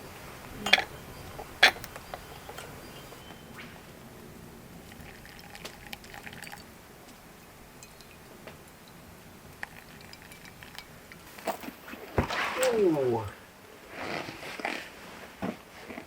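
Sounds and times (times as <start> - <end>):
campfire crackling and popping: 0.0 - 15.4.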